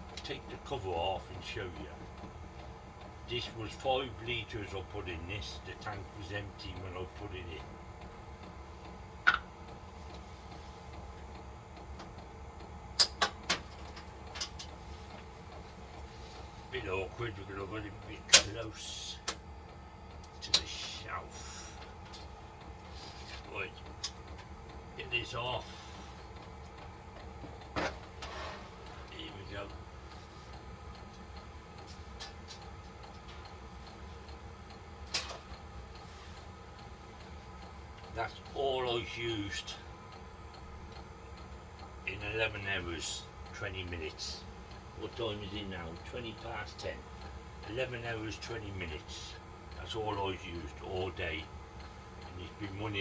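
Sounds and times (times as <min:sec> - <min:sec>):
heater fuel pump ticking: 0:00.0 - 0:53.0
steady low hum: 0:00.0 - 0:53.0.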